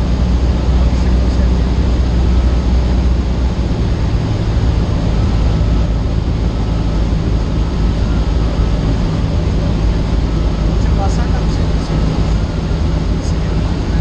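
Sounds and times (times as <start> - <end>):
airplane engine droning: 0.0 - 14.0.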